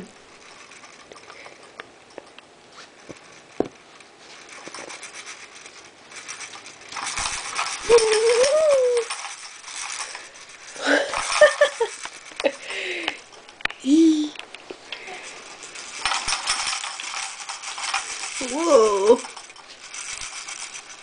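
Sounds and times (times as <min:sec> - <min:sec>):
baby toy rattling: 0:00.0 - 0:21.0.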